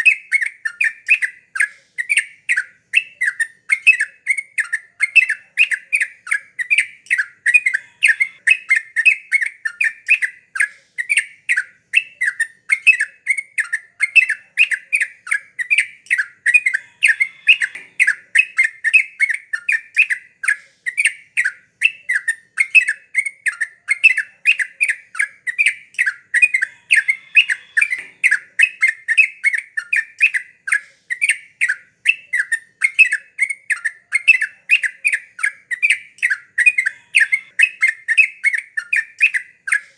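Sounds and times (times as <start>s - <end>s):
bird chattering call: 0.0s - 39.8s.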